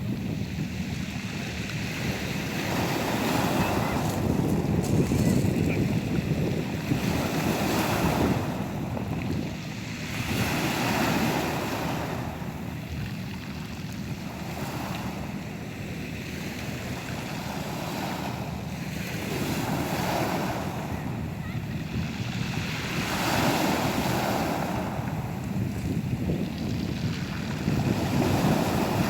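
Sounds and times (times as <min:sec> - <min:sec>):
sea waves washing ashore: 0:00.0 - 0:29.0
wind buffeting microphone: 0:00.0 - 0:29.0.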